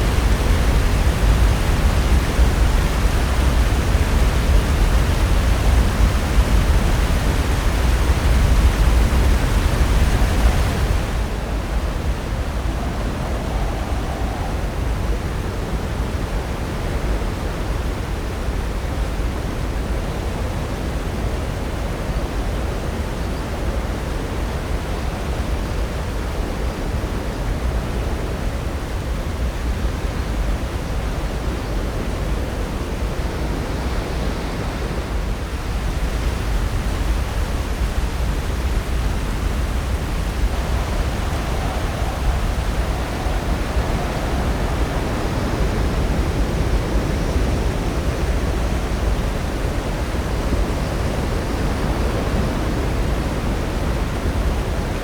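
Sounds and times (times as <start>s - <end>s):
surf washing on shore: 0.0s - 55.0s.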